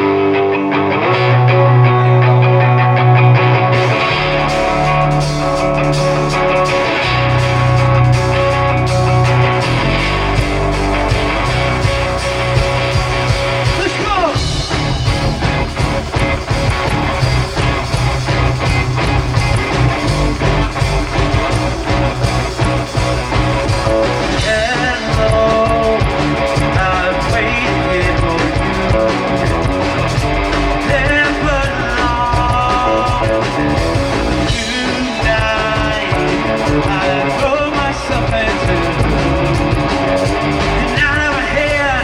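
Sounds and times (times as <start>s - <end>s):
electric guitar sliding notes: 0.0s - 42.0s
live rock band playing: 0.0s - 42.0s.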